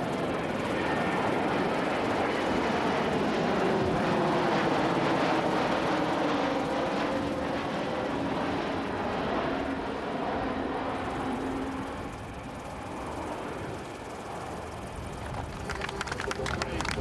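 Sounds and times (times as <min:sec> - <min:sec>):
jetliner flying past: 0:00.0 - 0:17.0.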